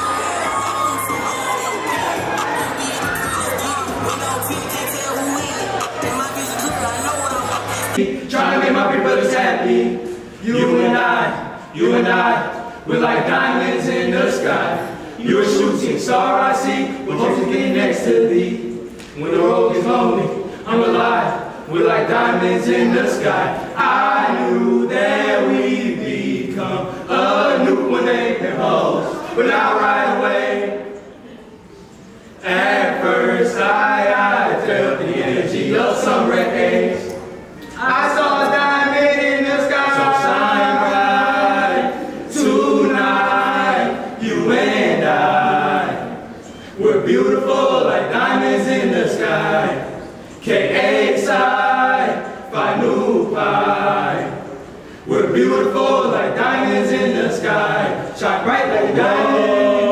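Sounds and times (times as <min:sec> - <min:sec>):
men singing a cappella: 0:02.3 - 0:30.9, 0:32.4 - 0:37.2, 0:37.8 - 0:59.9.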